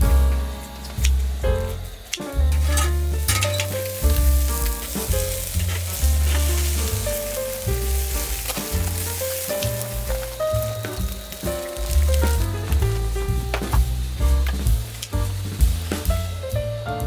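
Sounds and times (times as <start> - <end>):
background music: 0.0 - 17.0
meat sizzling on a grill: 0.0 - 17.0.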